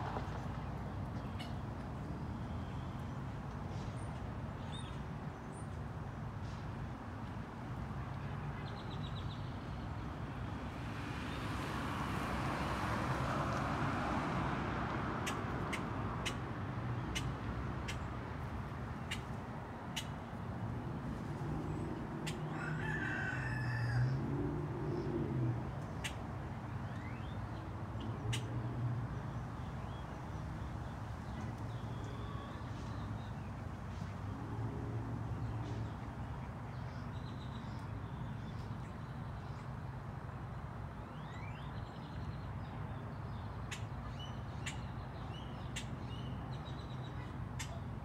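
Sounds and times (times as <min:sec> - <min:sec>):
songbirds chirping: 0:00.1 - 0:48.0.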